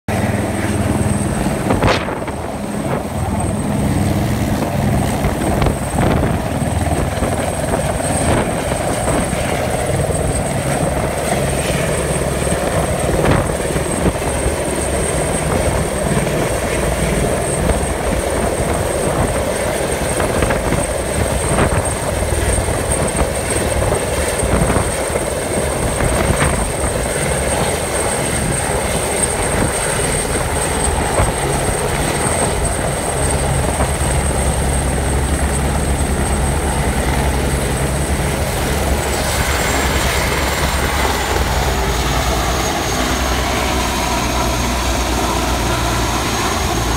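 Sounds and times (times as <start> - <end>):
helicopter rotor beat: 0.1 - 46.9
high turbine whine: 0.1 - 46.9.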